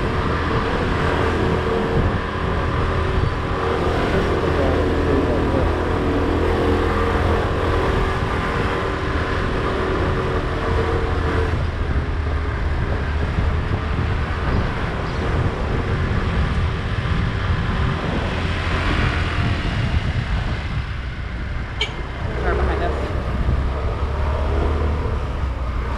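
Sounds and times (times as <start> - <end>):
wind on microphone: 0.0 - 25.9.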